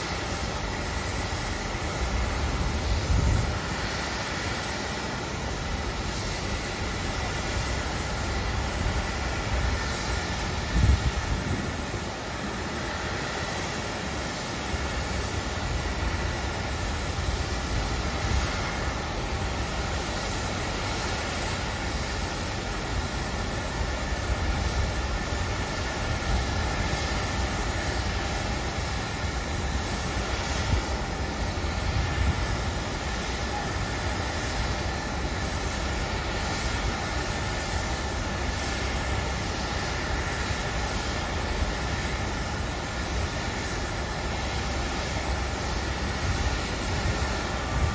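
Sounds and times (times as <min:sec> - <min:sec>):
faint high jet whine: 0:00.0 - 0:47.9
jet engine rumble: 0:00.0 - 0:47.9.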